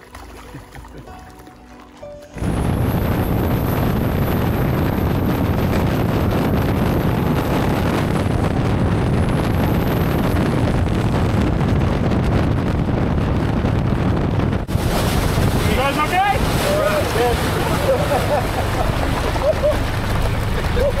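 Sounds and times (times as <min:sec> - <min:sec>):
boat engine running: 0:00.0 - 0:21.0
water rushing past hull: 0:00.0 - 0:21.0
wind on microphone: 0:02.4 - 0:21.0.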